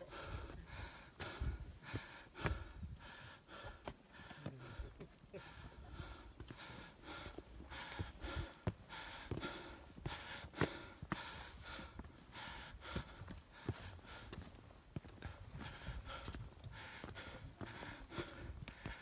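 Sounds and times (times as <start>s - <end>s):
person breathing hard: 0.0s - 19.0s
soft knocks of steps: 0.8s - 19.0s.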